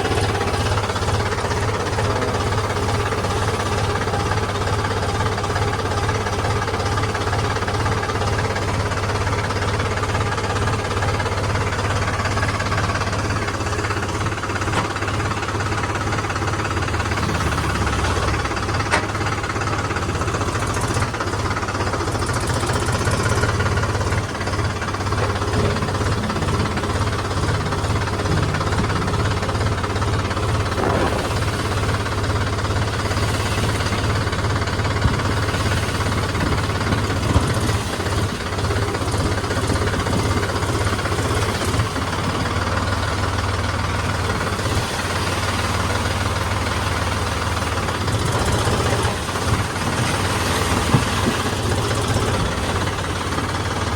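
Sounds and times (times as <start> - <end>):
heavy machinery diesel engine running: 0.0 - 53.9.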